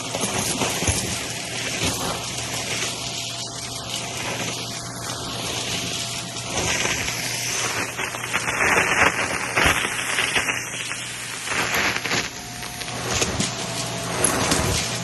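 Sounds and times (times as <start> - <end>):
debris rattling through vacuum nozzle: 0.0 - 15.0
vacuum cleaner motor hum: 0.0 - 15.0.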